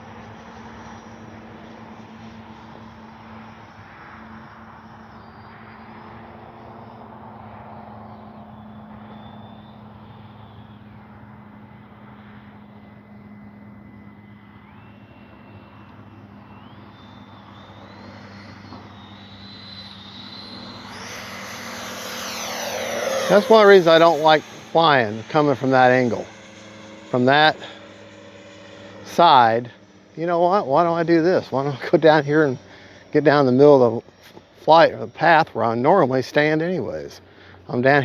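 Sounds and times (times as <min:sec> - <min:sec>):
rc jet fan whine: 0:00.0 - 0:38.0.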